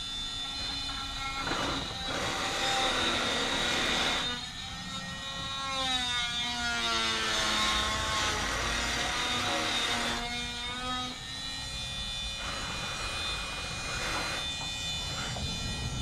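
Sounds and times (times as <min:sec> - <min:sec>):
power saw cutting lumber: 0:00.0 - 0:04.5, 0:05.2 - 0:16.0.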